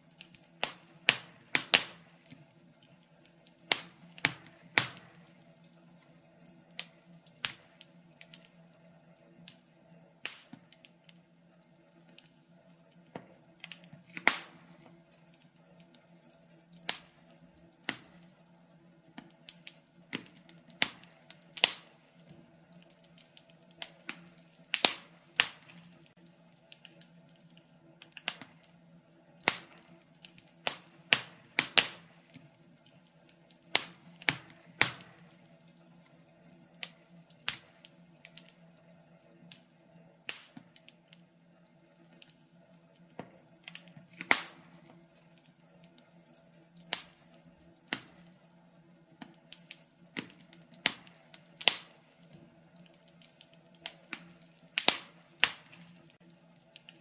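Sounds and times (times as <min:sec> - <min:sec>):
faint steady low hum: 0:00.0 - 0:57.0
wood fire crackling: 0:00.0 - 0:57.0.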